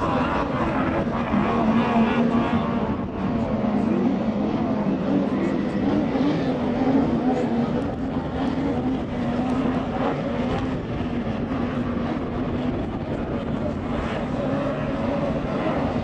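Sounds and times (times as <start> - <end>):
racing outboard engine high revs: 0.0 - 16.0.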